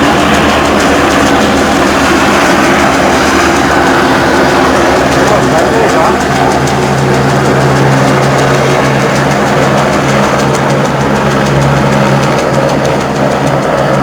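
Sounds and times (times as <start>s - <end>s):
helicopter flying low: 0.0s - 14.0s.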